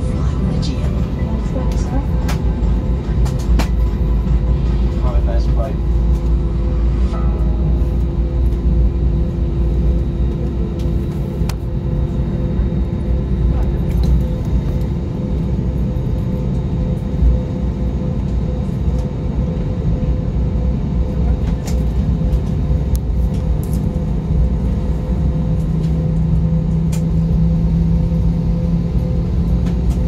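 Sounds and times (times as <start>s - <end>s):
deeper hum: 0.0s - 30.0s
engines and wheels rumbling: 0.0s - 30.0s
steady hums: 0.0s - 30.0s.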